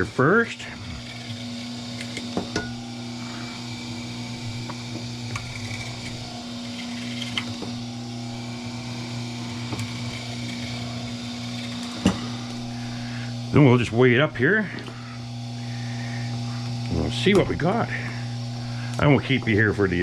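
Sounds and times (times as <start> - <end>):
cable-stripping machine humming: 0.0 - 20.0.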